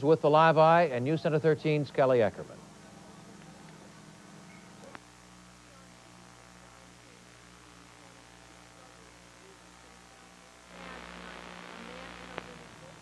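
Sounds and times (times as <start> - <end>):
faint electrical hum with hiss: 0.0 - 13.0.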